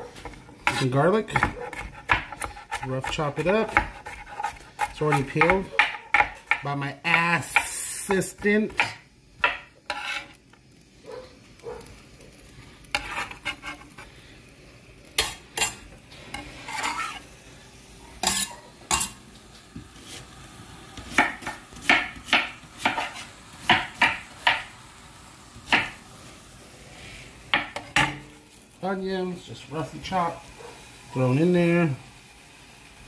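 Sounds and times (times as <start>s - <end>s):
faint sizzle from pot: 0.0s - 33.0s.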